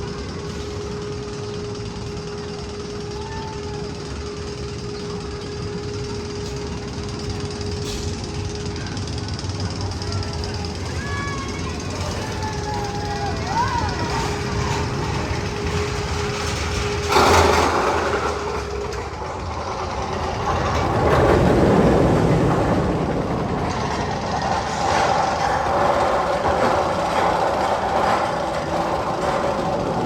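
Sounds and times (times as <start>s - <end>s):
roller coaster rumbling on track: 0.0s - 30.0s.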